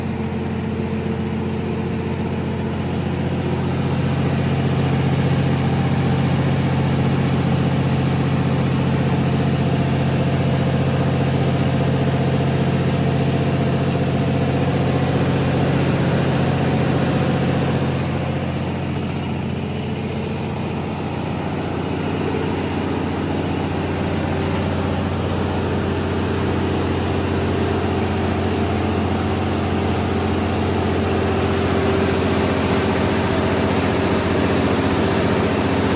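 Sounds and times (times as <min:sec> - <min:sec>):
diesel generator humming: 0:00.0 - 0:35.9.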